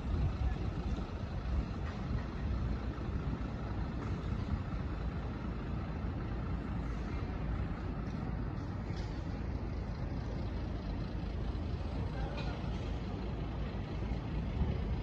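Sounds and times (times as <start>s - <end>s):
engine and road noise: 0.0s - 15.0s.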